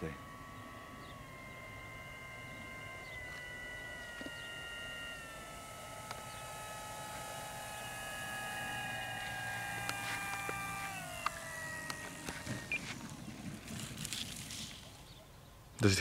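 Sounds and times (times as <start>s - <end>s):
model plane motor whining: 0.0s - 15.4s.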